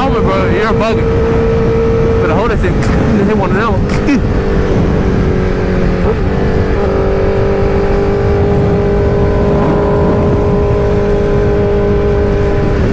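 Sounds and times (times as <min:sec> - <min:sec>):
low wind rumble: 0:00.0 - 0:12.9
motorcycle engine running: 0:00.0 - 0:12.9.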